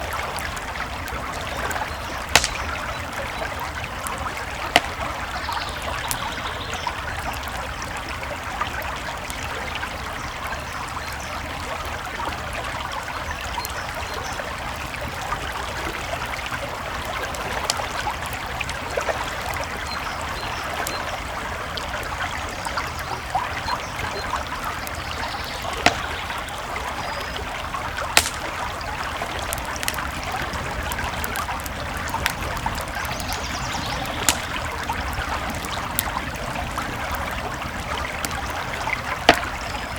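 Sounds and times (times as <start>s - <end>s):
campfire crackling and popping: 0.0s - 39.9s
creek flowing: 0.0s - 39.9s.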